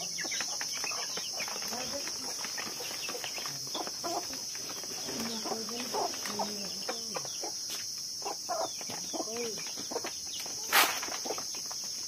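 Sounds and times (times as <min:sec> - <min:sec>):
birds chirping: 0:00.0 - 0:12.0
chickens clucking: 0:00.0 - 0:12.0
steady high-pitched hiss: 0:00.0 - 0:12.0.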